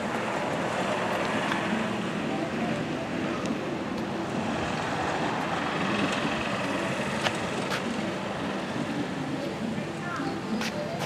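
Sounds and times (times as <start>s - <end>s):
vehicle rolling noise: 0.0s - 11.0s.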